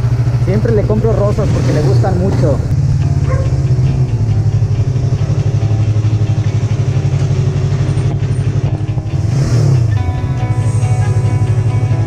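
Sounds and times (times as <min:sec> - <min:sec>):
small motorcycle engine idling: 0:00.0 - 0:12.0.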